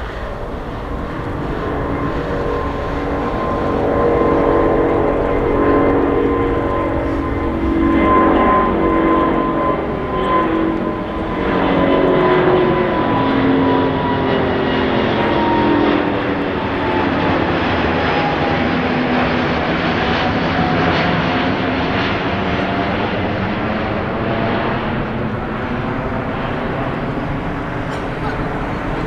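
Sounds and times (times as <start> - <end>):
jet engines passing with whine: 0.0 - 29.0.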